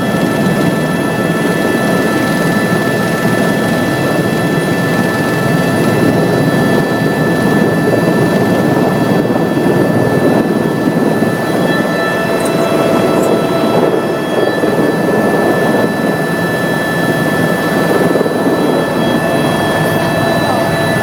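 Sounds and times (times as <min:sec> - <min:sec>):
helicopter rotor and engine rumble: 0:00.0 - 0:21.0
high whine: 0:00.0 - 0:21.0.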